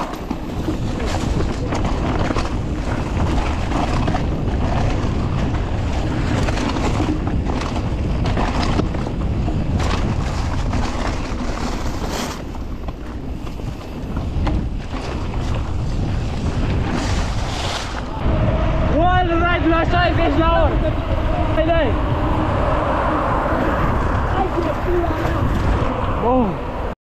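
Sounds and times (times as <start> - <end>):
bike rattling over rough ground: 0.0 - 26.6
wind buffeting microphone: 0.0 - 27.0.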